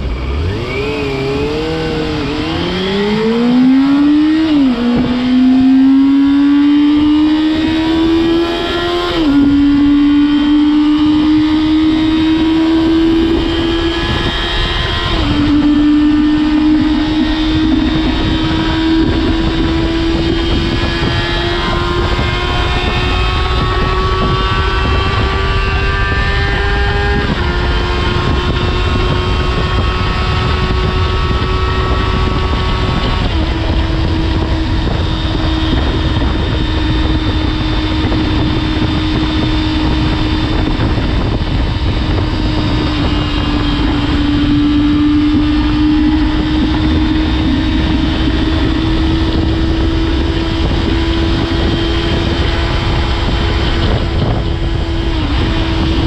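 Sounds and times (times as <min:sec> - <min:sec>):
motorcycle engine at high revs: 0:00.0 - 0:56.0
wind noise on microphone: 0:00.0 - 0:56.0.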